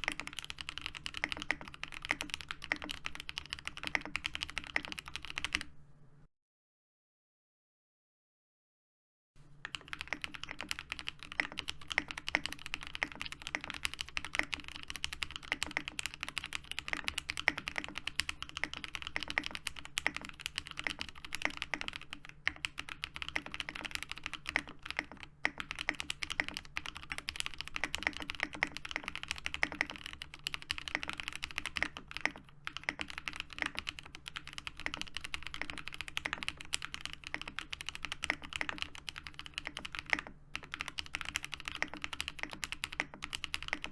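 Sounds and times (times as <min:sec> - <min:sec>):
mechanical keyboard typing: 0:00.0 - 0:05.7, 0:09.6 - 0:43.9.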